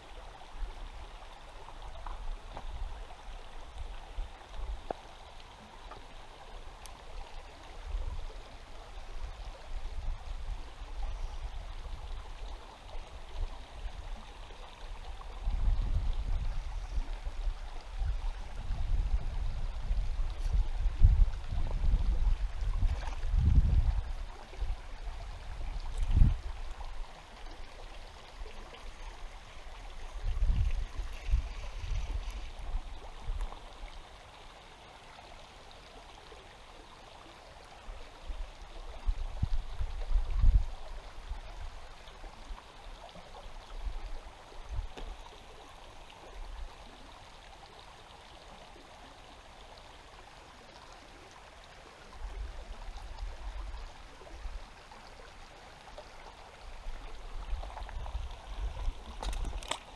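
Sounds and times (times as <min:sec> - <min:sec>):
river water running: 0:00.0 - 0:59.9.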